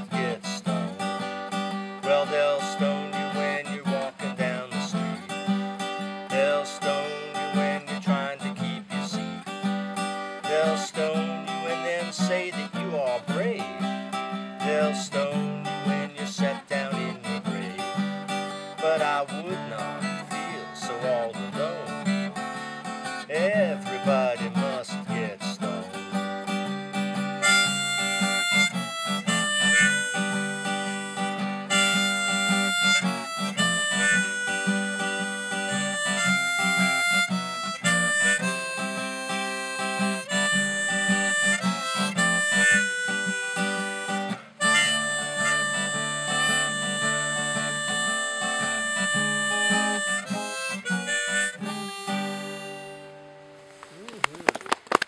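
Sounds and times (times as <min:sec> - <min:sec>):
strummed acoustic guitar: 0:00.0 - 0:54.4
harmonica: 0:00.0 - 0:54.6.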